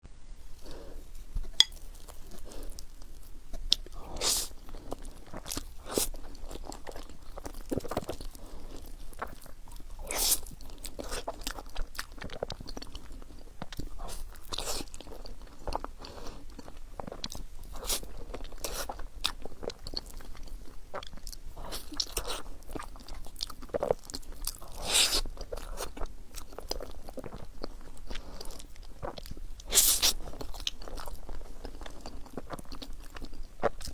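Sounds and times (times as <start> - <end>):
person chewing bread: 0.4 - 33.9.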